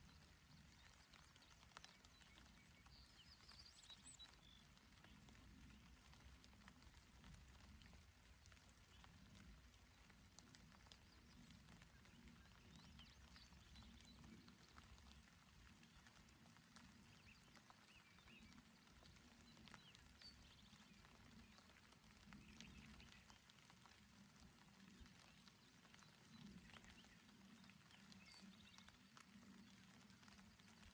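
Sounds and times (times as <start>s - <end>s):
gentle rain falling: 0.0s - 30.9s.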